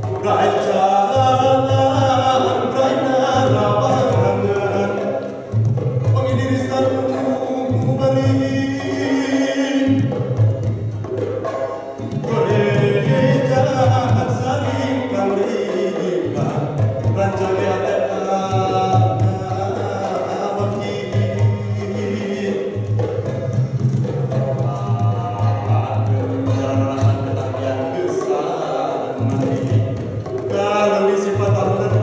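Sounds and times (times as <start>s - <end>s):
hand drum strokes: 0.0s - 32.0s.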